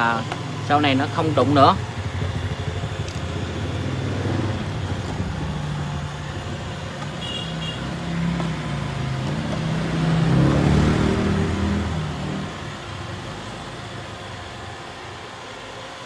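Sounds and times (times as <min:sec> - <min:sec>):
robot vacuum motor hum: 0:00.0 - 0:16.0.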